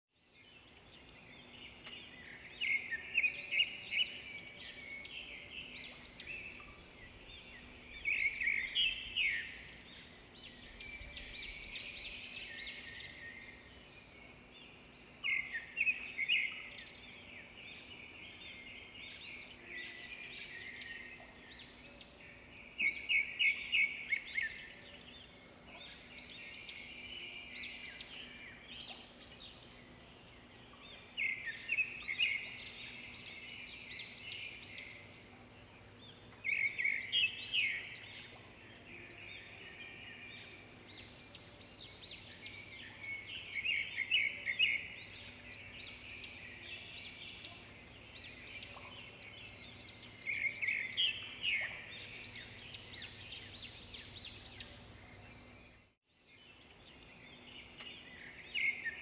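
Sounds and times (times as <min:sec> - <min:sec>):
songbirds chirping and trilling: 0:00.1 - 0:59.0.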